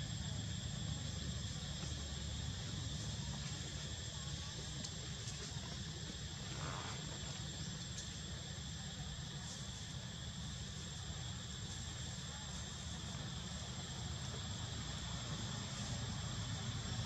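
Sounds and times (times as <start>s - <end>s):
insect chorus buzzing: 0.0s - 17.0s.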